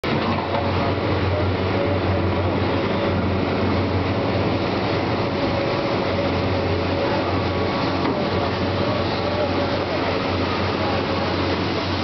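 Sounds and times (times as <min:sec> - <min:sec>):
excavator engine drone: 0:00.0 - 0:12.0.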